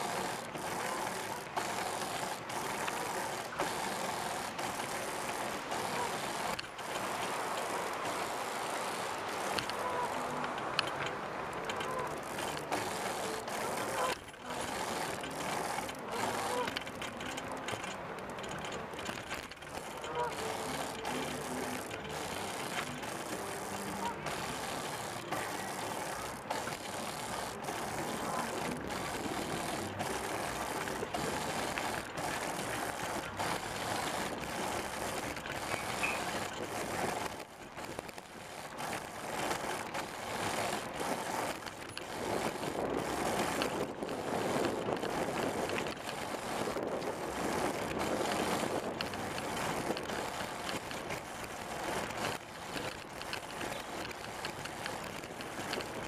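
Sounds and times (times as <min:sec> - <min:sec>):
hand drive mechanism: 0:00.0 - 0:56.0
tyre and air noise: 0:00.0 - 0:56.0.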